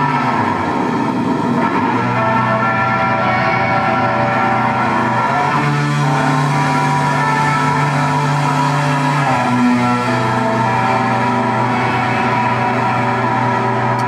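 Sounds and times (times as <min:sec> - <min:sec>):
electric guitar chords: 0:00.0 - 0:14.0
rock band playing: 0:00.0 - 0:14.0.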